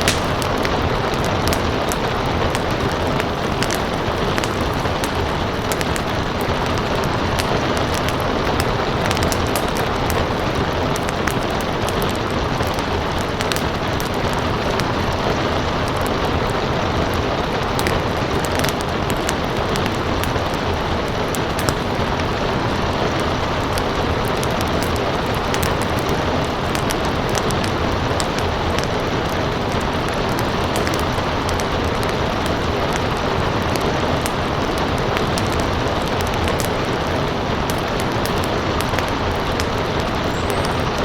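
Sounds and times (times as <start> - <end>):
rain falling: 0.0 - 41.0
wood fire crackling: 0.0 - 41.0.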